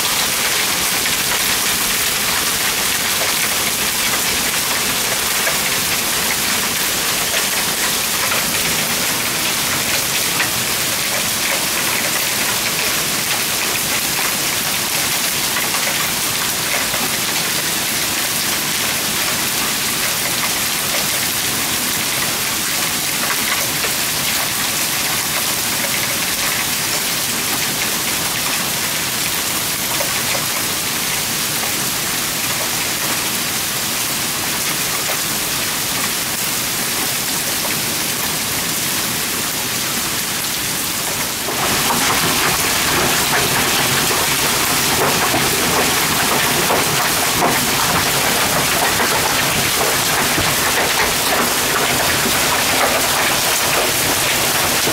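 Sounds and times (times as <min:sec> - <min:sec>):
hail and heavy rain falling: 0:00.0 - 0:54.9.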